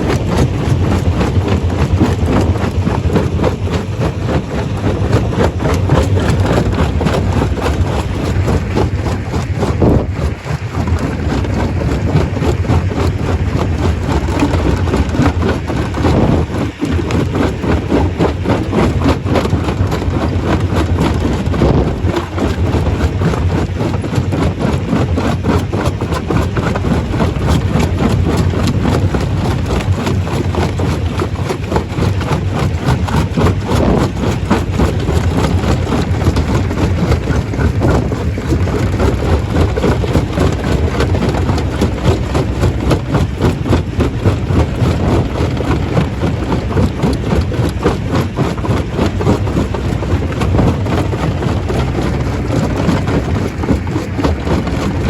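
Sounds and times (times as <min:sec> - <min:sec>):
rock clattering and rattling: 0:00.0 - 0:55.0
stone crusher drone: 0:00.0 - 0:55.0.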